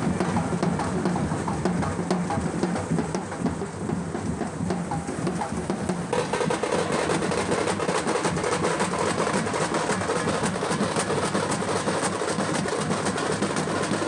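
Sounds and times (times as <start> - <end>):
frame drums beaten fast: 0.0 - 14.0.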